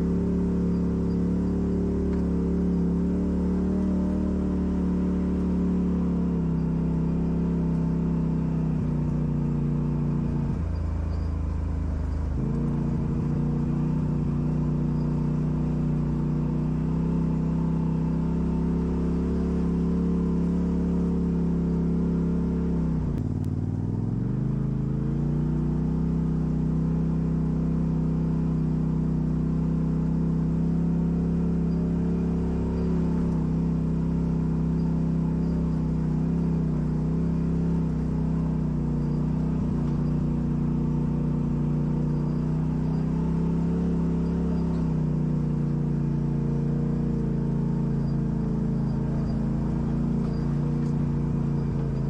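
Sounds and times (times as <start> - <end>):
off-road vehicle engine running: 0.0 - 52.0.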